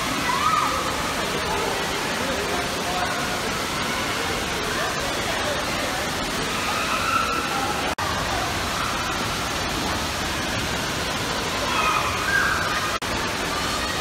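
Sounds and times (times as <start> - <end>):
faint children's voices: 0.0 - 14.0
rushing water in indoor pool: 0.0 - 14.0.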